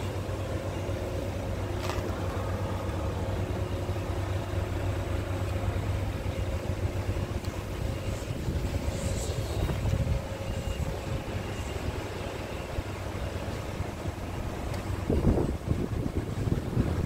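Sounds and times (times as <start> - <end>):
faint steady whine: 0.0 - 17.0
truck diesel engine idling: 0.0 - 17.0.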